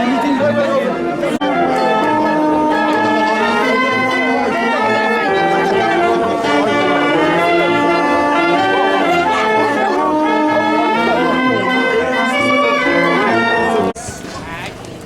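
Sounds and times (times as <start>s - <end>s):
brass band playing: 0.0s - 14.0s
trumpets and trombones long notes: 0.0s - 14.0s
steady low beat: 0.8s - 13.9s.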